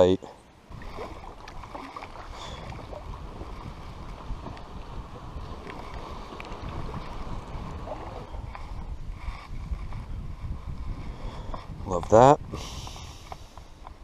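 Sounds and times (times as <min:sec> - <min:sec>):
wind buffeting microphone: 0:00.7 - 0:14.0.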